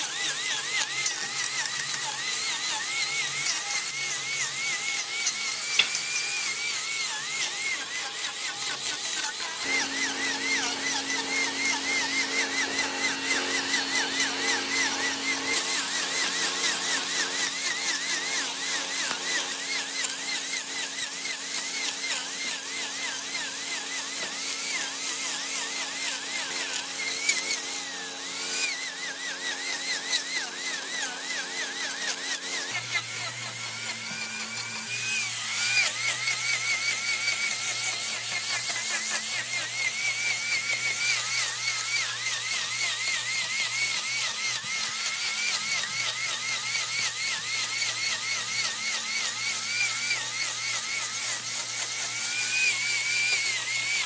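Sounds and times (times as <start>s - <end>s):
power tool whining on wood: 0.0s - 54.0s.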